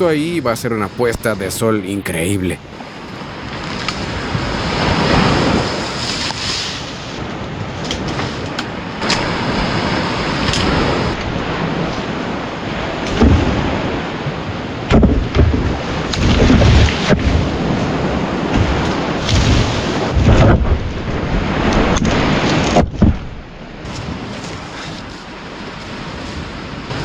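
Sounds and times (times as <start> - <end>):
surf: 0.0 - 27.0
wind: 0.0 - 27.0
wind buffeting microphone: 4.0 - 27.0.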